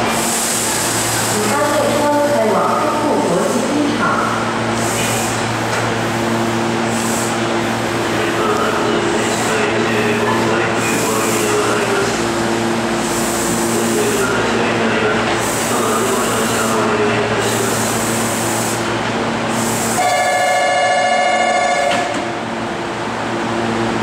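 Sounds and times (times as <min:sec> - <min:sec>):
train equipment humming: 0:00.0 - 0:24.0.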